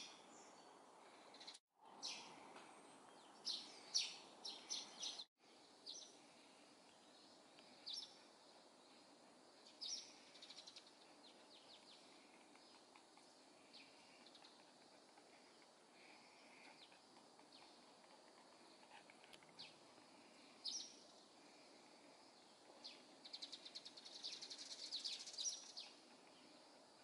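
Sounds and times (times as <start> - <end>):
sparrows chirping: 0.0 - 26.8
faint background hiss: 0.0 - 27.0.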